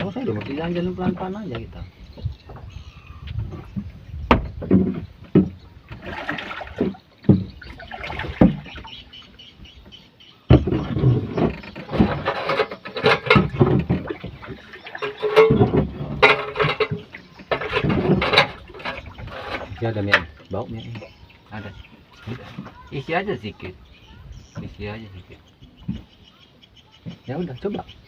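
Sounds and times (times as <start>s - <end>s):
knocks and clatter in a boat: 0.0s - 26.4s, 27.0s - 28.0s.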